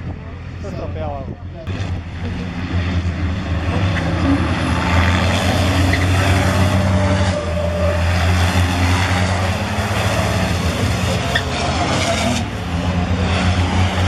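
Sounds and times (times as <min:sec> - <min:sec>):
track noise: 0:00.0 - 0:14.0
truck engines droning: 0:00.0 - 0:14.0.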